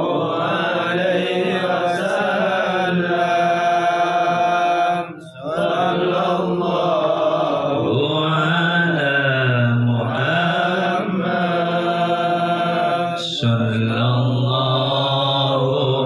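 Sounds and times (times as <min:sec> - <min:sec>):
person chanting melodically: 0:00.0 - 0:16.0.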